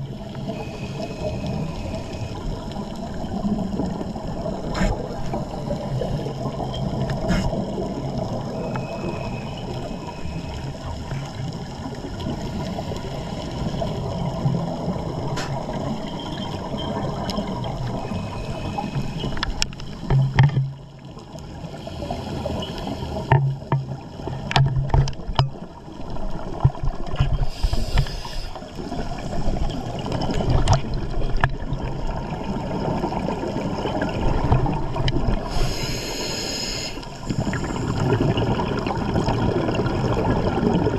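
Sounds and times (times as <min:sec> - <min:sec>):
underwater rushing noise: 0:00.0 - 0:40.9.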